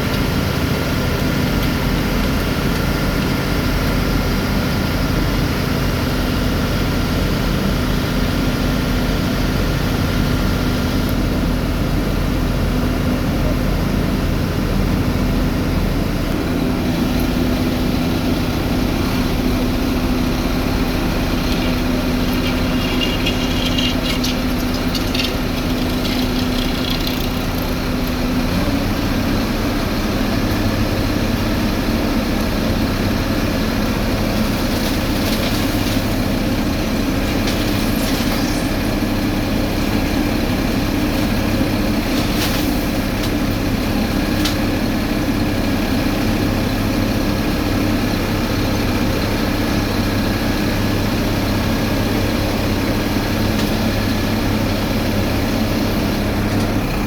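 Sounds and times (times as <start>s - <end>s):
deep diesel engine drone: 0.0s - 57.0s.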